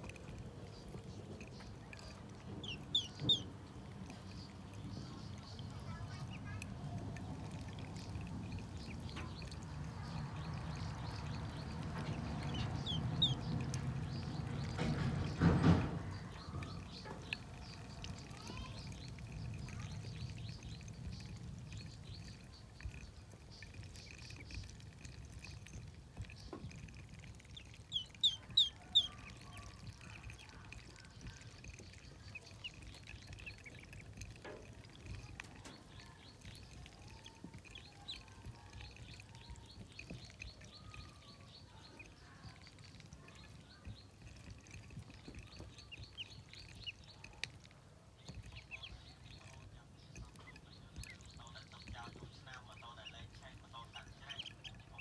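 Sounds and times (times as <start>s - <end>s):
ducklings peeping: 0.0s - 55.0s.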